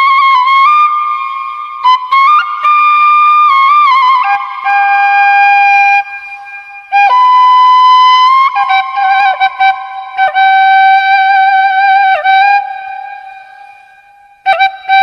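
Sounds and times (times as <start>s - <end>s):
flute playing slow melody: 0.0s - 15.0s.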